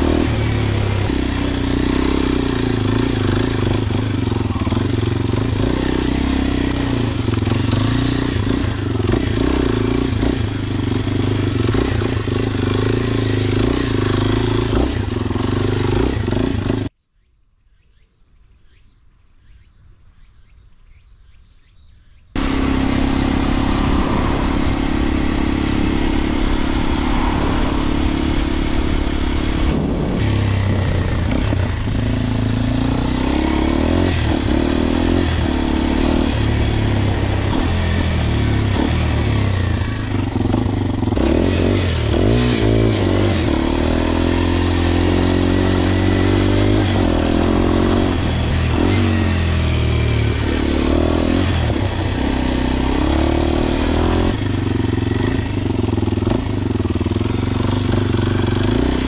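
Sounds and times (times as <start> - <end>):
motorcycle engine running: 0.0 - 16.9, 22.4 - 59.0.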